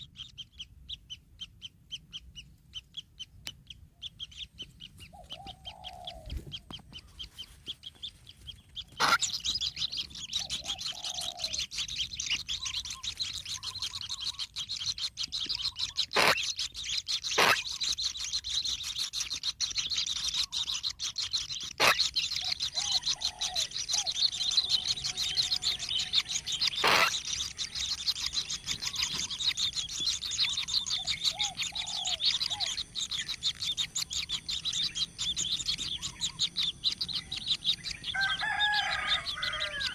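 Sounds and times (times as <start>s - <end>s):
nestlings chirping: 0.0s - 39.9s.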